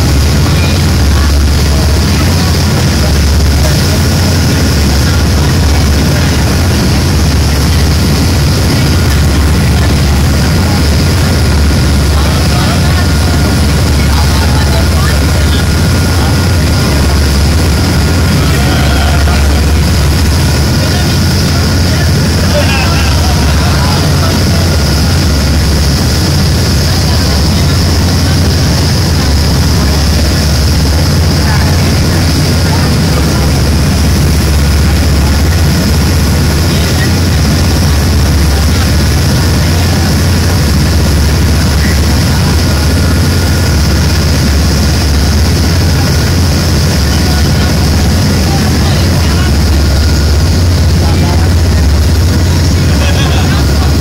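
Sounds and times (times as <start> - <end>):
boat engine humming: 0.0 - 54.0
wake water rushing: 0.0 - 54.0.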